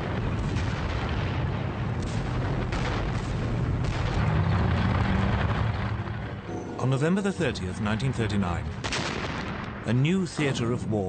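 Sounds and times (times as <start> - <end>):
rumble of artillery fire: 0.0 - 6.5, 7.7 - 10.9
sharp gunshots: 0.0 - 6.5, 7.8 - 10.8.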